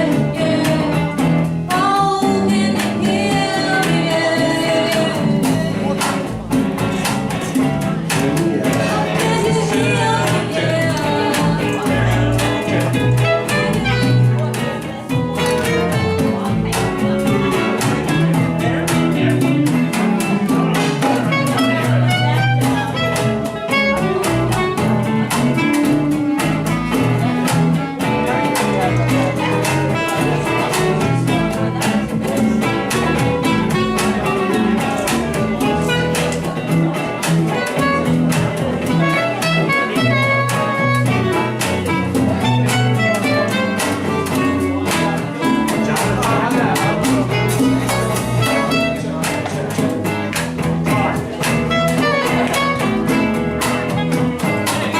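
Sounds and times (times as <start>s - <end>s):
instrumental music with beat: 0.0s - 54.9s.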